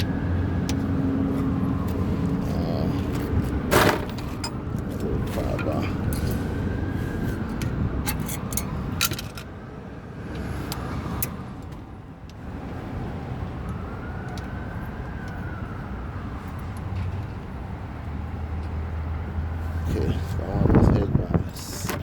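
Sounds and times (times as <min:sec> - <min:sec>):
low rumble of vehicles: 0:00.0 - 0:22.0.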